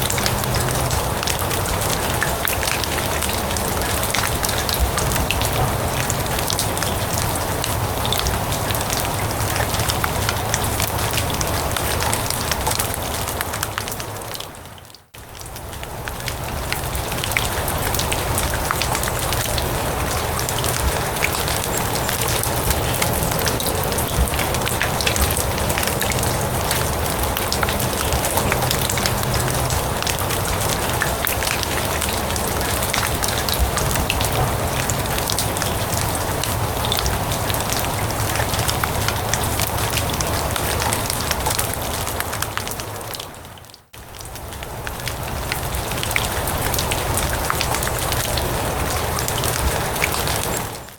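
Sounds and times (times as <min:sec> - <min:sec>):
rain falling on grass and leaves: 0:00.0 - 0:50.9
sharp raindrop ticks: 0:00.0 - 0:50.9.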